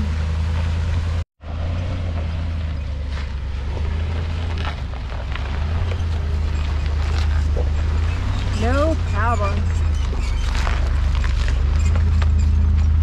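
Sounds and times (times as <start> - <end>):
truck engine drone: 0.0 - 13.0.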